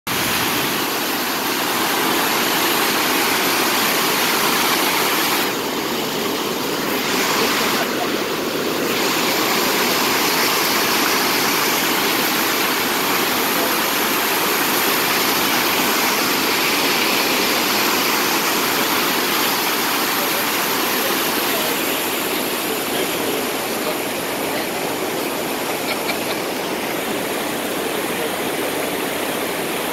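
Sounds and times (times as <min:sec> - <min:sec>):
waterfall rushing: 0:00.1 - 0:29.9.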